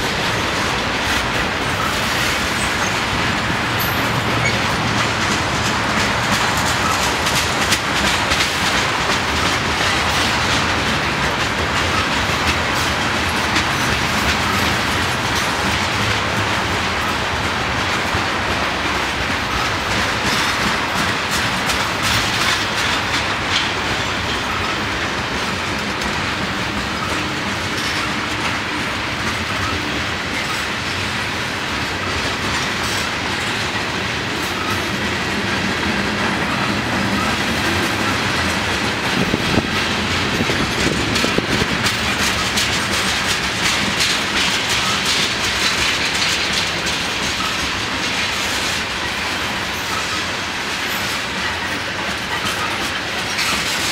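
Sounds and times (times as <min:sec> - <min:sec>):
steel wheels rolling on rails: 0:00.0 - 0:53.9
wheels clicking over rail joints: 0:00.0 - 0:53.9.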